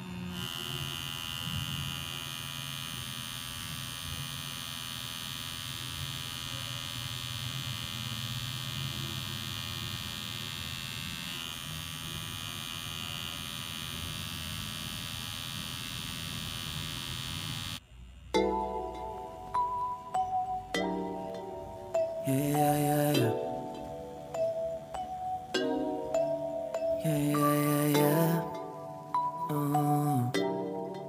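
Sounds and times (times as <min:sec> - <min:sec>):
tattoo machine buzzing: 0:00.0 - 0:31.0.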